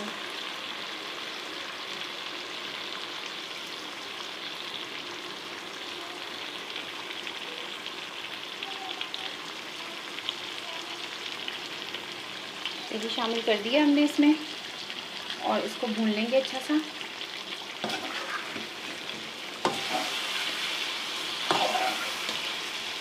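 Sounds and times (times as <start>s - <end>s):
chicken frying in oil: 0.0s - 23.0s.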